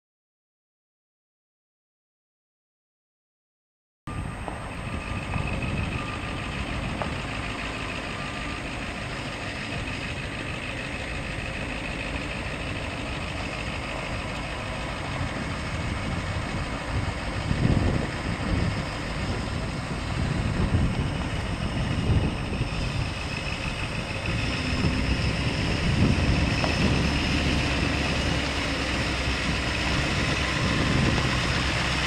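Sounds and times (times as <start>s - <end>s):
truck engine running: 4.1s - 32.0s.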